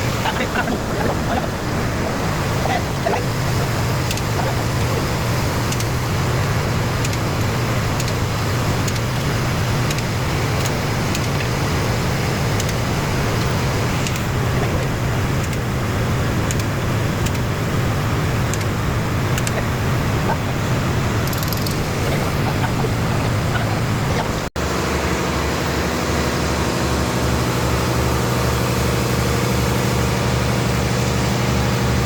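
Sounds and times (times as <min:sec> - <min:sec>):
low motor drone: 0:00.0 - 0:32.0.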